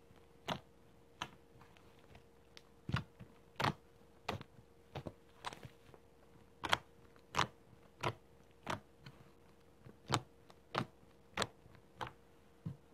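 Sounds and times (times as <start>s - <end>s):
faint steady hum: 0.0s - 12.9s.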